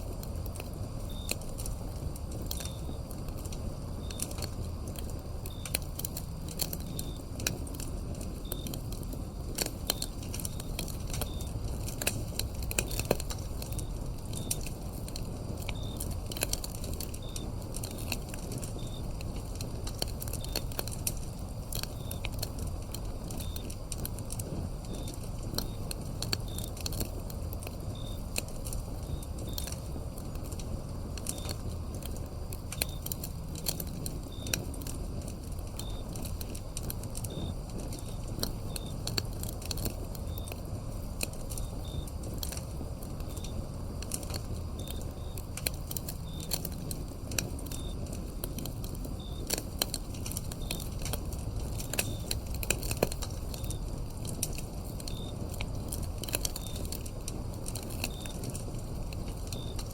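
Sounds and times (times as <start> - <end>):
cricket chirping: 0.0 - 59.9
wood fire crackling and popping: 0.0 - 59.9.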